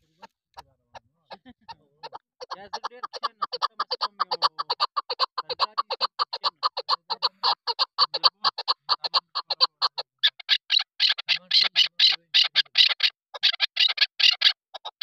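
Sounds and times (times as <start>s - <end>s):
partridge calling chuk notes: 0.0s - 15.0s.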